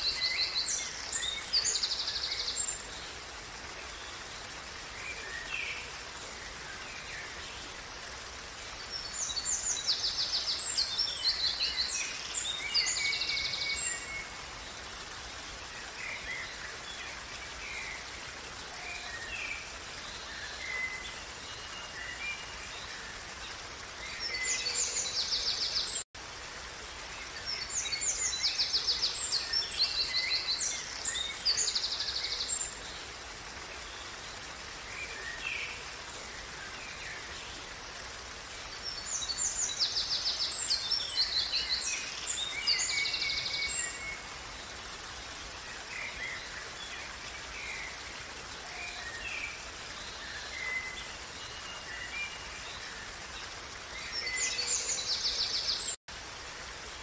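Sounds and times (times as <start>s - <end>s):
brook running: 0.0s - 57.0s.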